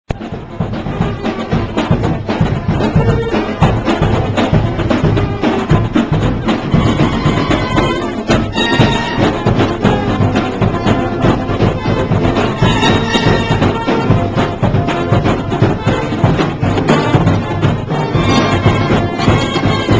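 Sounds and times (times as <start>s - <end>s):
brass horns holding notes: 0.1s - 19.9s
steady drum beat: 0.1s - 19.9s.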